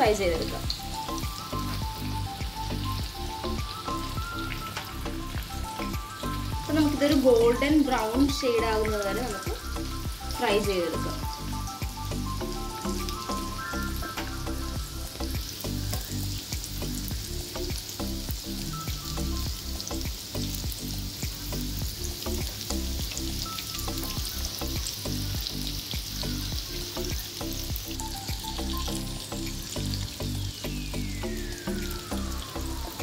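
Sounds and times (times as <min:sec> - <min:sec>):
background music low notes: 0:00.0 - 0:33.0
oil sizzling and crackling: 0:00.0 - 0:33.0.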